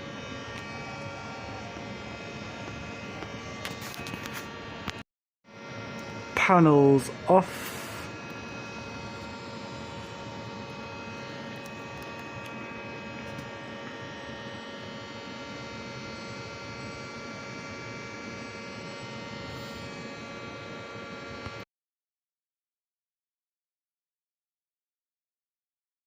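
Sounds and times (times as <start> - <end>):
droning hum: 0.0 - 21.6.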